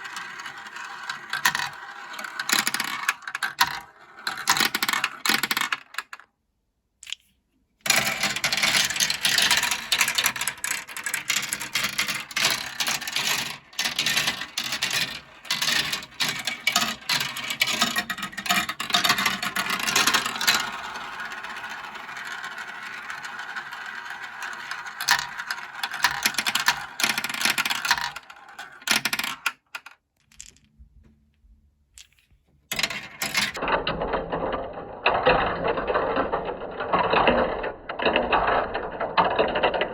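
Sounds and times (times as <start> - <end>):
marbles rolling down track: 0.0 - 6.2, 7.9 - 30.6, 32.7 - 39.9.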